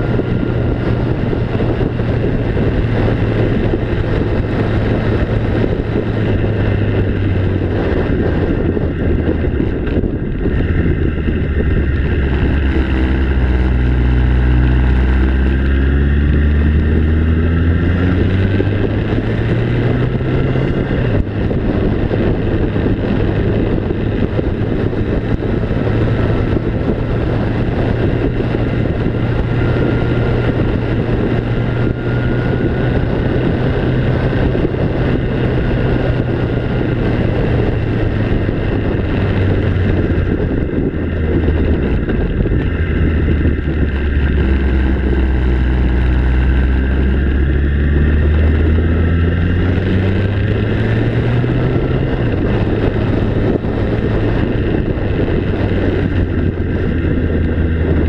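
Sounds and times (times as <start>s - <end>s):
rush of wind and travel noise: 0.0s - 58.0s
vehicle engine running: 0.0s - 58.0s.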